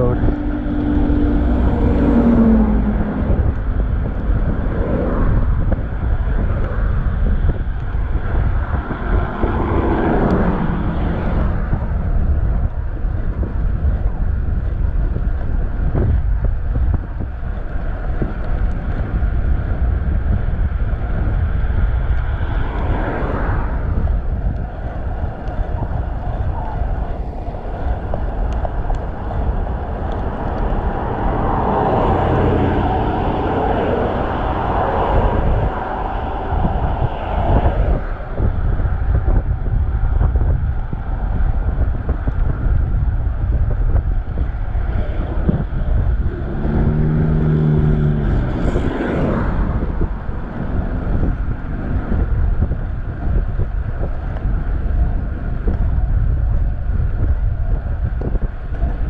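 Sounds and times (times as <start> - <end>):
road traffic passing: 0.0 - 59.0
wind buffeting microphone: 0.0 - 59.0.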